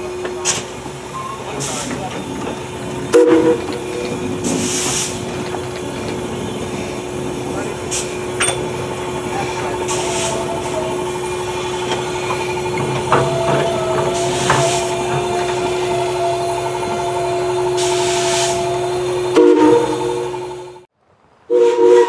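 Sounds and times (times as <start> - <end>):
steam hissing: 0.0 - 20.6
steam locomotive hum: 0.0 - 22.0.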